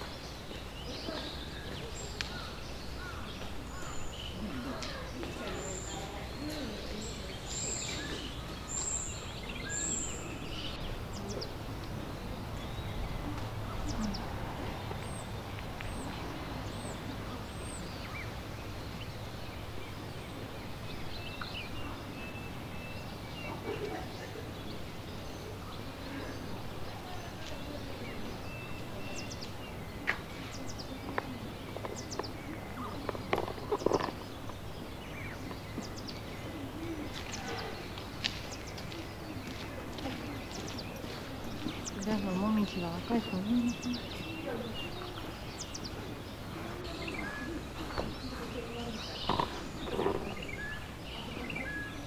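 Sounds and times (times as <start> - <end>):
faint indistinct voices: 0.0 - 52.0.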